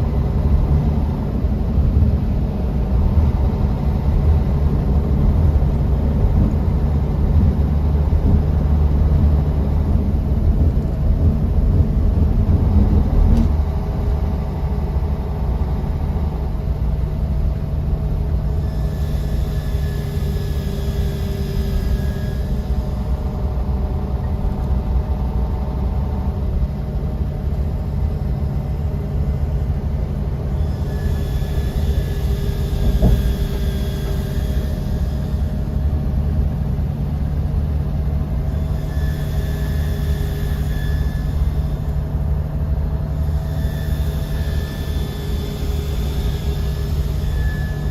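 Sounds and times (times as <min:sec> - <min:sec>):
bus engine and road rumble: 0:00.0 - 0:47.9
faint whines: 0:00.0 - 0:47.9.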